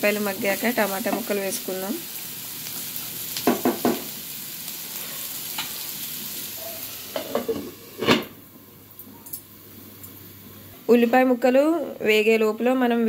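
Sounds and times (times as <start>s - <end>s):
onions sizzling in oil: 0.0s - 12.2s.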